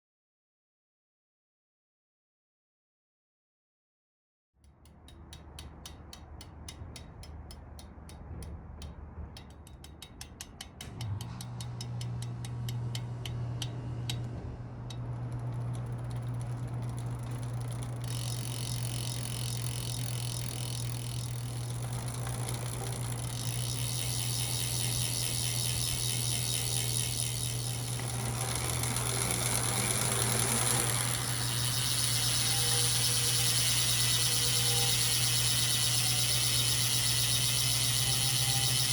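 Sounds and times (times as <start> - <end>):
freehub ratcheting clicks: 4.6 - 14.3, 14.9 - 38.9
low hum of spinning wheel: 4.7 - 38.9.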